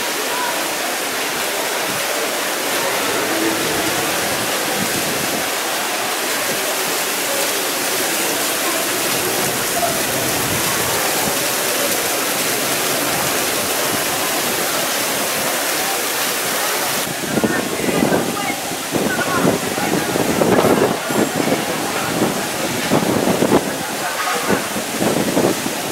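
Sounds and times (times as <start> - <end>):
fountains splashing into pool: 0.0 - 25.9.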